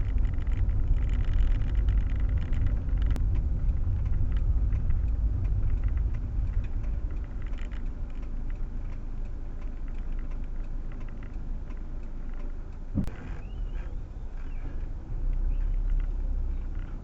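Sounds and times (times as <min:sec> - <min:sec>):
light ticks: 0:00.0 - 0:17.0
low rumble inside car cabin: 0:00.0 - 0:17.0.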